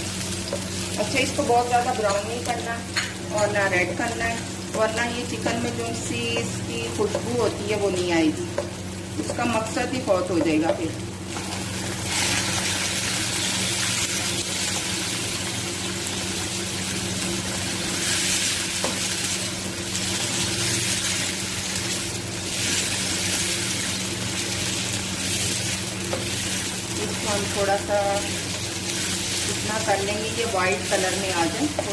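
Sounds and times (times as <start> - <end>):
garlic sizzling in hot oil: 0.0 - 31.9
steady low hum: 0.0 - 31.9.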